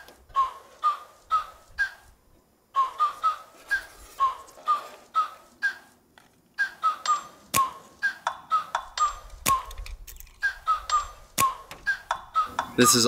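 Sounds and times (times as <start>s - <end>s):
whistle-like notes: 0.3s - 2.0s, 2.7s - 5.9s, 6.6s - 13.0s.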